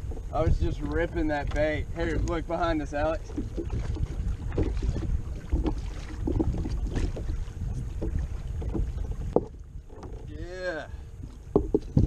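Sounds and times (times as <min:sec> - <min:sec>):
water slapping against kayak hull: 0:00.0 - 0:10.4, 0:11.2 - 0:12.0
wind buffeting microphone: 0:00.0 - 0:12.0.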